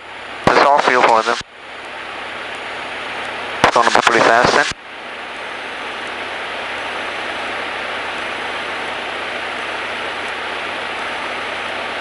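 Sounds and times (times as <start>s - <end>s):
aircraft cabin engine noise: 0.0s - 12.0s.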